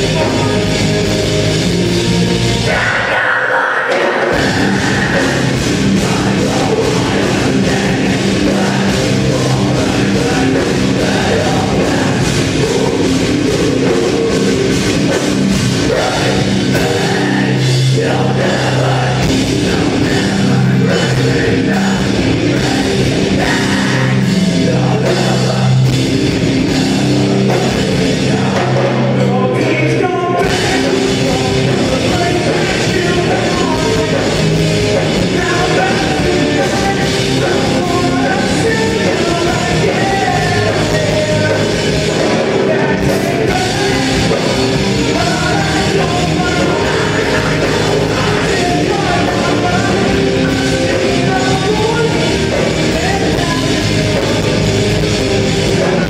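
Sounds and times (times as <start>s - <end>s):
rock band playing live: 0.0s - 56.0s.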